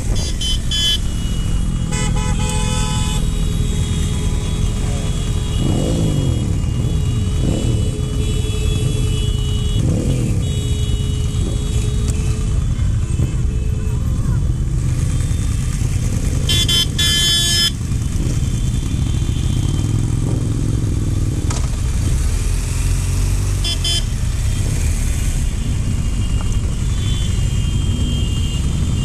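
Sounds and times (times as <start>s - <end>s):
engines revving: 0.0s - 13.3s, 14.4s - 29.0s
horns sounding: 0.0s - 20.3s, 23.5s - 29.0s
motorcycle engine: 0.0s - 29.0s.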